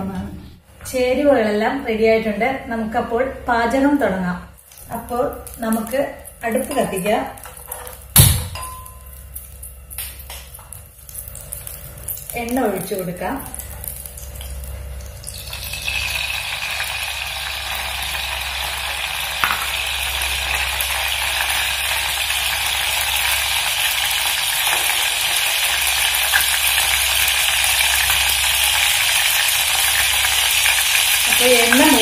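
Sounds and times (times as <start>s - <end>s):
oil sizzling in a pot: 4.6s - 32.0s.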